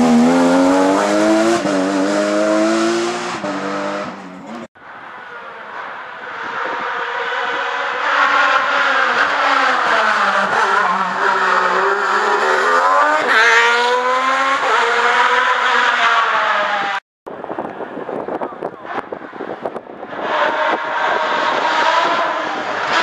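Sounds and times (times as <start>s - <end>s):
race car engine revving: 0.0s - 4.7s, 5.8s - 17.0s, 18.8s - 23.0s.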